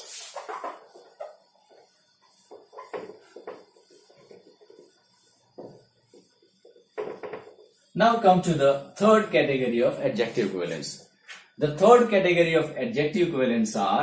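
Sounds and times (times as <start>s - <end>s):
cloth wiping a whiteboard: 0.0s - 12.4s.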